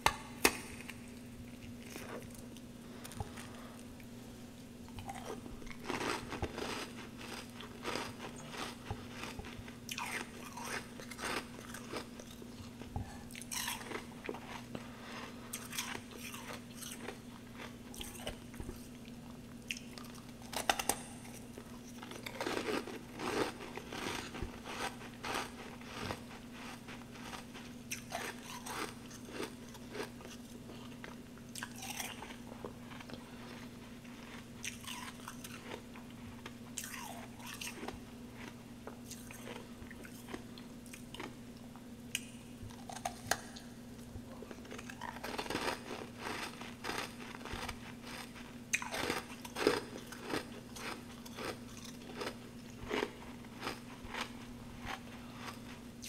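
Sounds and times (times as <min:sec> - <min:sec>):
steady low hum: 0:00.0 - 0:56.0
crunching and chewing frost: 0:00.4 - 0:04.0, 0:04.9 - 0:41.4, 0:42.1 - 0:56.0.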